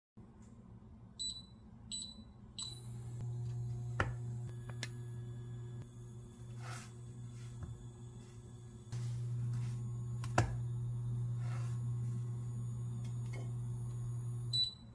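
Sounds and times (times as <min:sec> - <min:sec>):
cooktop low hum: 0:02.4 - 0:14.9.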